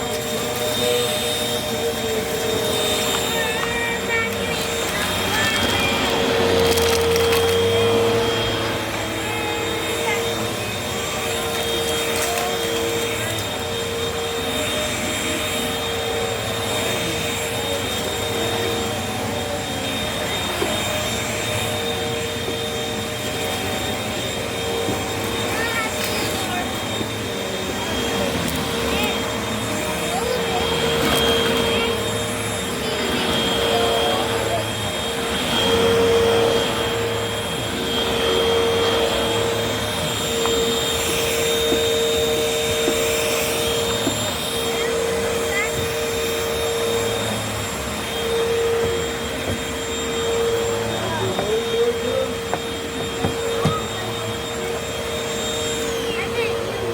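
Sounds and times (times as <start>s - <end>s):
vacuum cleaners running: 0.0s - 56.9s.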